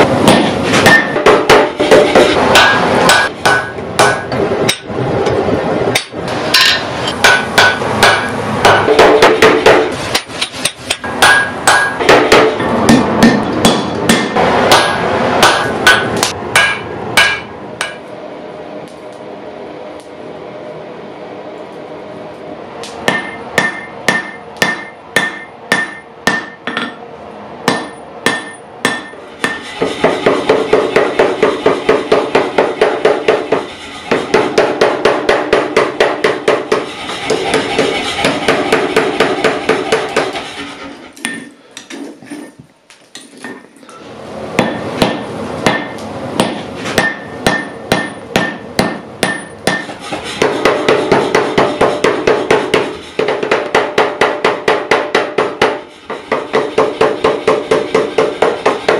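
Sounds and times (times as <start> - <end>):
hammer striking steel on anvil: 0.0 - 4.9, 5.9 - 18.1, 22.8 - 27.0, 27.6 - 40.4, 44.6 - 58.9.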